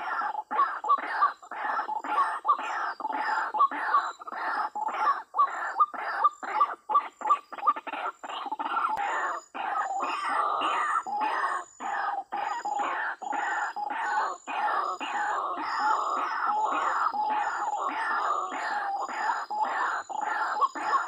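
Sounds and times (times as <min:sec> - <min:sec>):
waterhens calling: 0:00.0 - 0:21.0.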